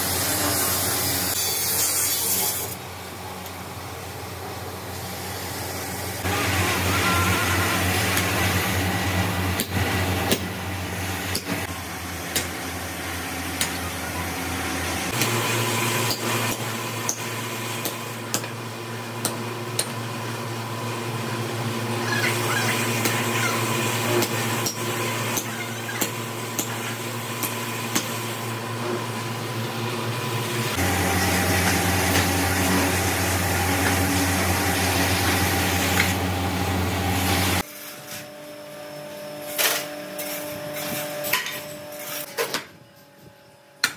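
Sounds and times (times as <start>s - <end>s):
workshop machinery hum: 0.0s - 43.9s.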